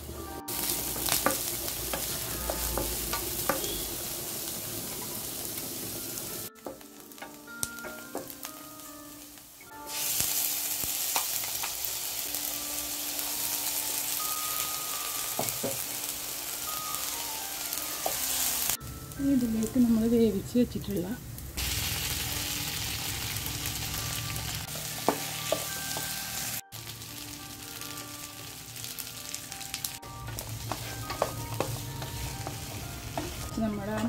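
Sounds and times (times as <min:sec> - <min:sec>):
food sizzling in a frying pan: 0:00.0 - 0:34.0.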